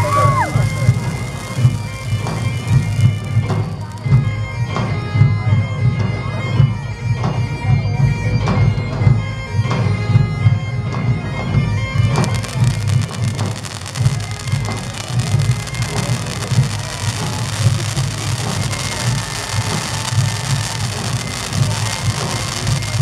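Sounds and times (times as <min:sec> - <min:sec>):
bagpipe music: 0:00.0 - 0:23.0.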